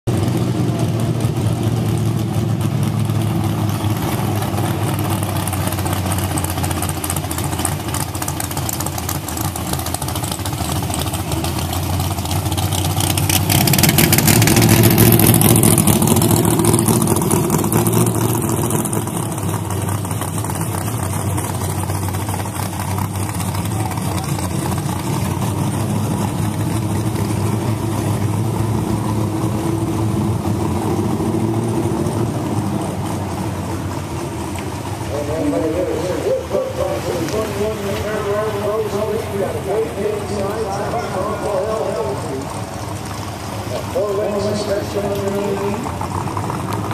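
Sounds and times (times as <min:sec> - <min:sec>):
car engines driving past: 0:00.0 - 0:46.9.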